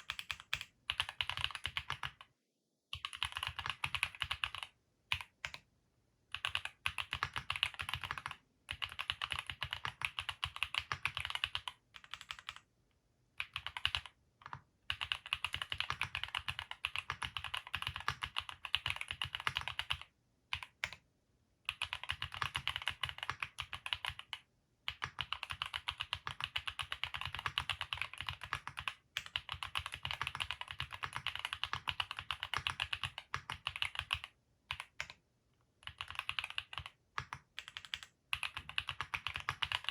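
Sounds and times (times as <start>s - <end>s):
fast typing on mechanical keyboard: 0.0s - 2.2s, 2.9s - 5.6s, 6.3s - 12.6s, 13.4s - 21.0s, 21.7s - 35.2s, 35.8s - 39.9s.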